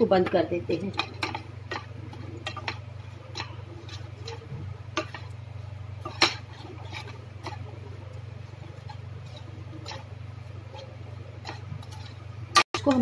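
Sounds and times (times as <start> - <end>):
steady low hum: 0.0 - 13.0
wooden spatula scraping frying pan: 0.0 - 13.0.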